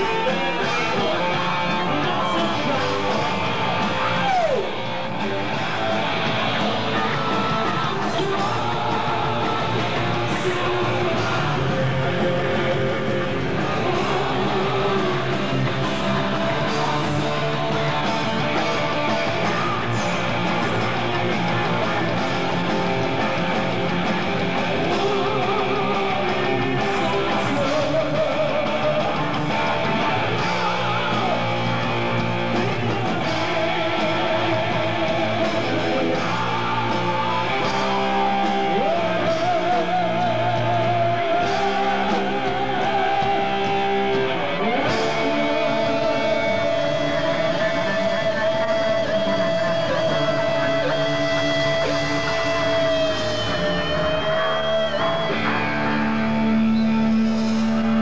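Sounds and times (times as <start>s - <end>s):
heavy metal band playing: 0.0s - 58.0s.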